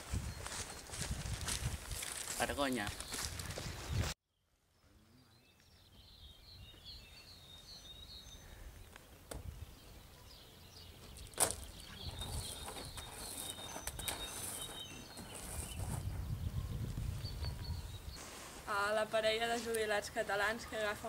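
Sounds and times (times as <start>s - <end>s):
small birds chirping: 2.4s - 21.0s.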